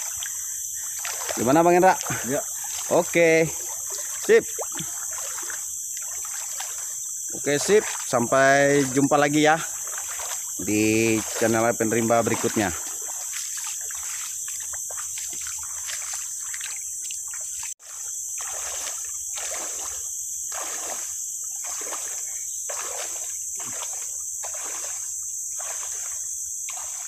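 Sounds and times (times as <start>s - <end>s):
high insect drone: 0.0s - 27.0s
legs sloshing through water: 0.0s - 27.0s.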